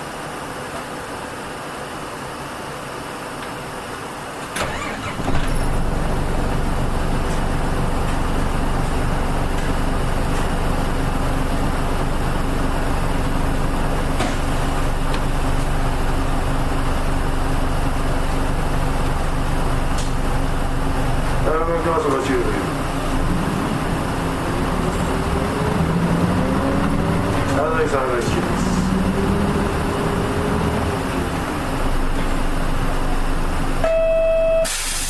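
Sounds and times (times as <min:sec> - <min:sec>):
diesel bus engine idling: 0:00.0 - 0:35.0.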